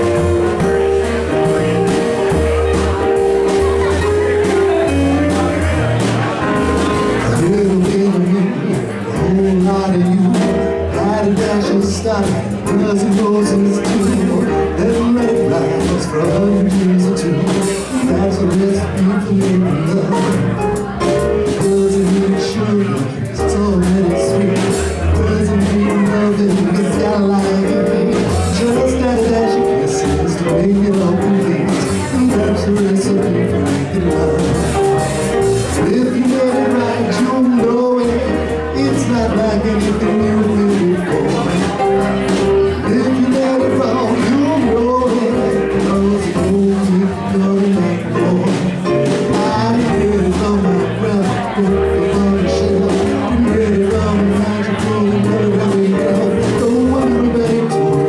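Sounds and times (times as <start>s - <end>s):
drum kit: 0.0s - 58.0s
electric bass: 0.0s - 58.0s
keyboard: 0.0s - 58.0s
man singing into microphone: 7.2s - 35.1s, 35.7s - 58.0s.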